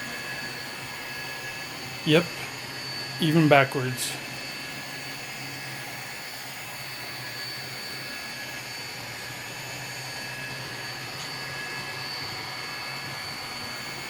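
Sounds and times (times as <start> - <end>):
model train motor whine: 0.0 - 14.0.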